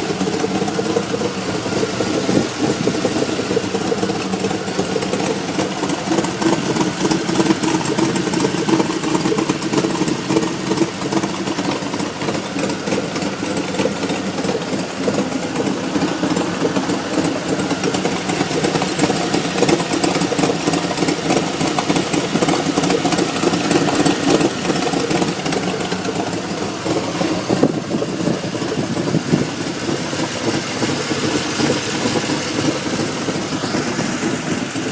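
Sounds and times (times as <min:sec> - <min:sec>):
engine running steadily: 0:00.0 - 0:34.9
strange exhaust sound: 0:00.0 - 0:34.9.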